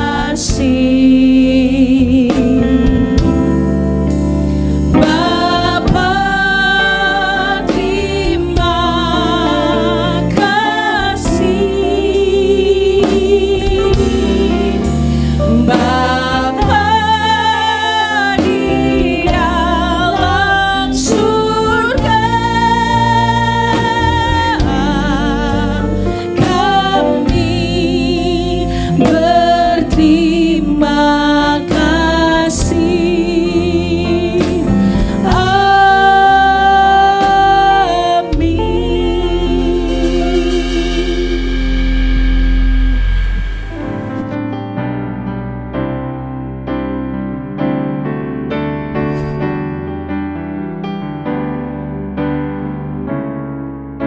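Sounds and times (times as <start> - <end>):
gospel band playing: 0.0 - 54.0.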